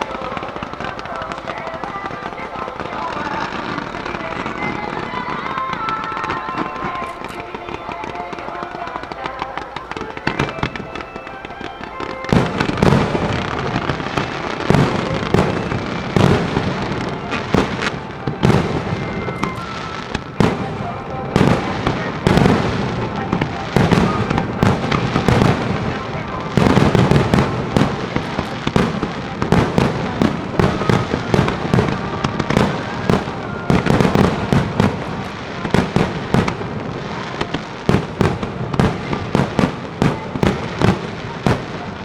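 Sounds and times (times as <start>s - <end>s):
firework crackling: 0.0s - 42.0s
firework shells bursting: 0.0s - 42.0s.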